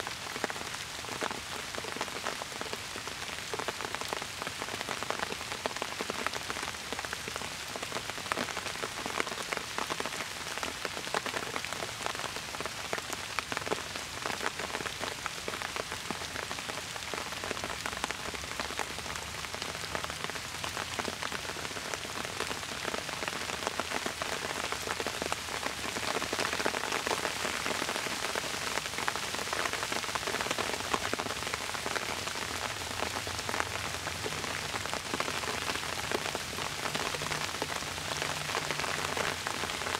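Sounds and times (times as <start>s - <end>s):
rain falling: 0.0s - 39.9s
raindrops hitting close by: 0.0s - 39.9s.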